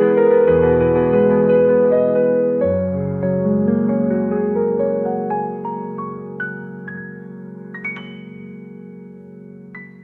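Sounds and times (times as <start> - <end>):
slow electric piano melody: 0.0 - 10.0.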